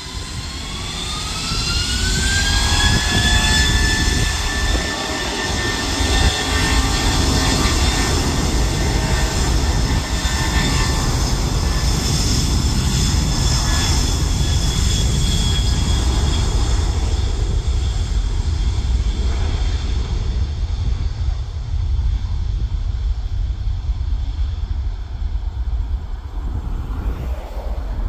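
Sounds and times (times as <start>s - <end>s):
jet engines running loud: 0.0s - 28.0s.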